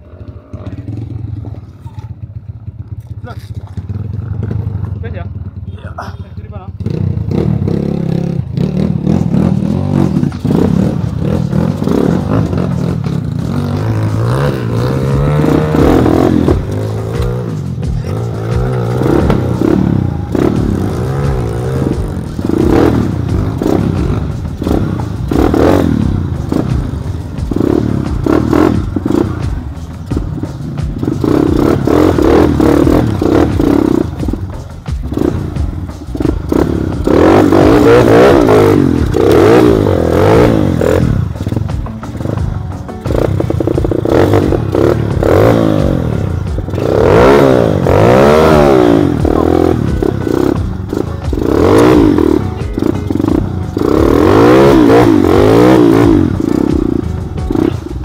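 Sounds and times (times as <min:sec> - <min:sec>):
motorcycle clattering over rough ground: 0:00.0 - 0:58.0
motorcycle engine revving: 0:00.0 - 0:58.0.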